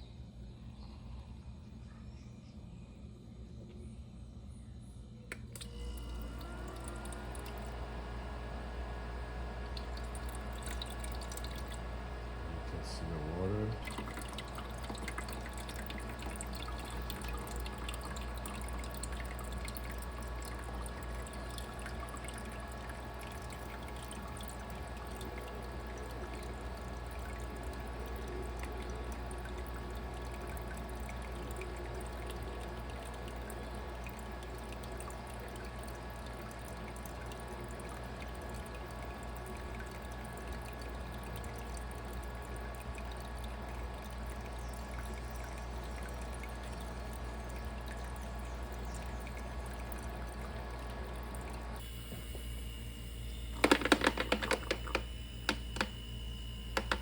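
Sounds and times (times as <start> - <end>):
ice maker humming: 5.3 - 57.0
water trickling and pouring: 5.6 - 7.9, 9.0 - 57.0.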